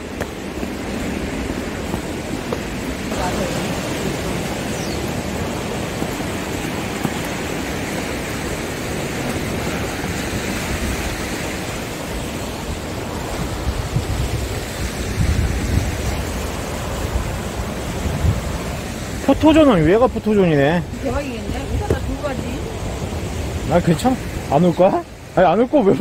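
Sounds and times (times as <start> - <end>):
waves breaking on rocky shore: 0.0 - 26.0
wind buffeting microphone: 0.0 - 26.0.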